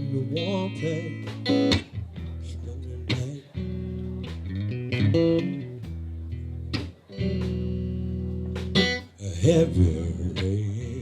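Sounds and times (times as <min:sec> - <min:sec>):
guitar playing blues chords: 0:00.0 - 0:11.0.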